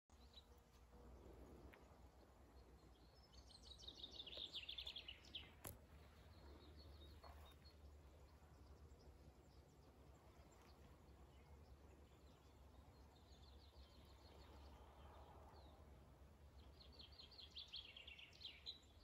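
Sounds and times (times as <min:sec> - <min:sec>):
songbird trill: 0:00.1 - 0:19.0.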